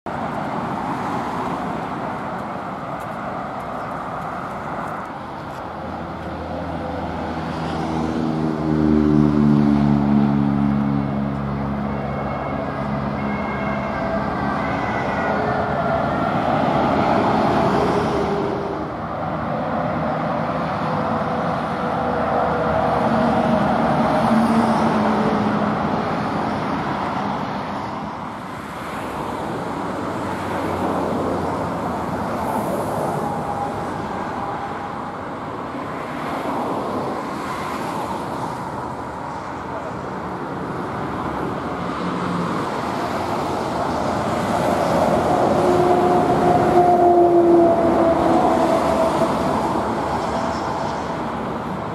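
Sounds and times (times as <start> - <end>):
motorway traffic roar: 0.0 - 51.9.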